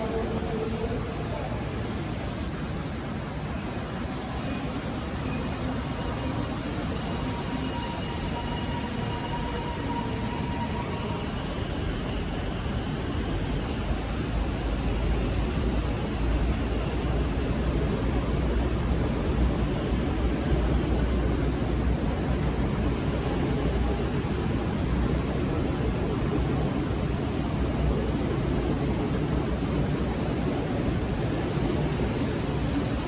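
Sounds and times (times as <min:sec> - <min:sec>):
train rumbling with hiss: 0:00.0 - 0:33.0.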